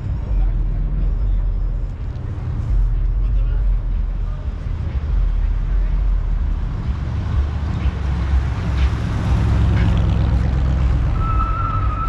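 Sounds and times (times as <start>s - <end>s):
car engine exhaust drone: 0.0s - 12.0s.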